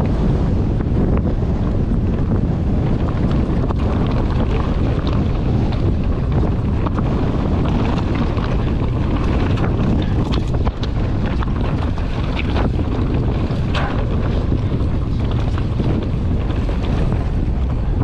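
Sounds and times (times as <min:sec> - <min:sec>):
wind buffeting microphone: 0:00.0 - 0:18.0
bike clicks and knocks on stones: 0:02.1 - 0:18.0.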